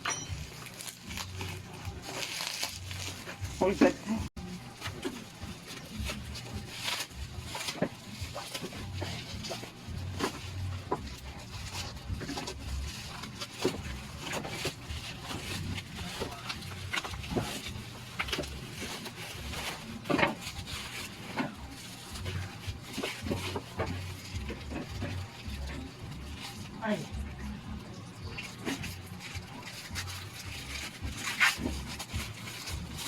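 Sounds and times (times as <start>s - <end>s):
packaging and parts handled: 0.0s - 33.0s.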